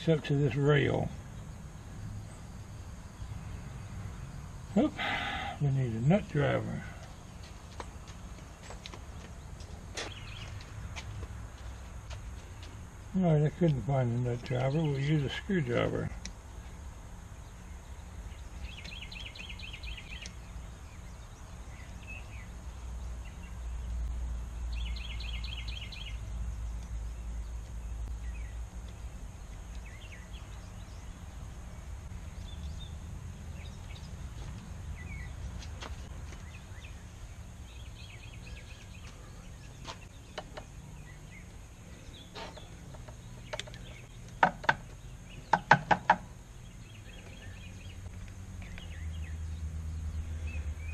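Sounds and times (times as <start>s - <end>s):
low background hum: 0.0s - 50.9s.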